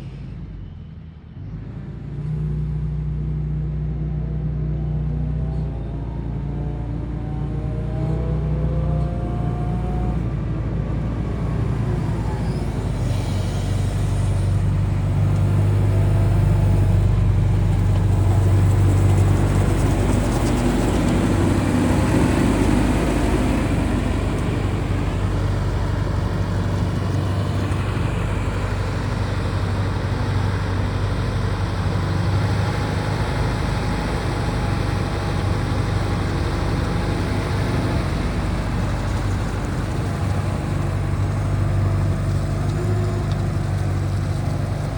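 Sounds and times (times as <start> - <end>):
excavator diesel engine running: 2.8 - 44.9.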